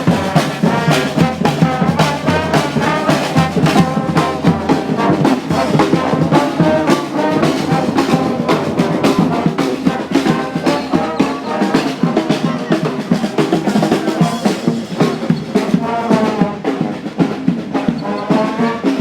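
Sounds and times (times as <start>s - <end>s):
brass band playing: 0.0s - 19.0s
steady drum beat: 0.0s - 19.0s.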